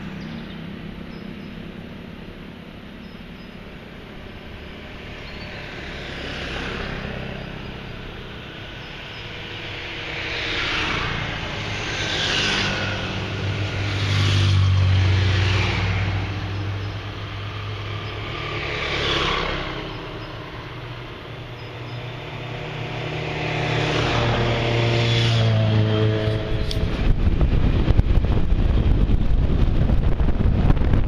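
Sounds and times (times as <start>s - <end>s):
motor scooters riding past: 0.0s - 27.1s.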